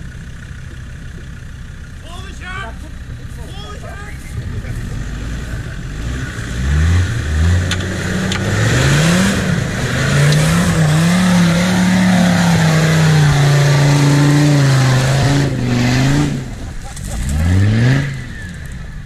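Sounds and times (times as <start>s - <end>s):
diesel engine at full throttle: 0.0s - 19.0s.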